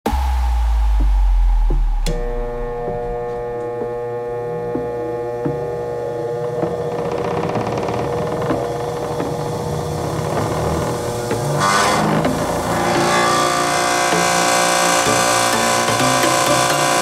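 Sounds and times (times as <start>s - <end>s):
bench grinder motor humming: 2.1s - 17.0s.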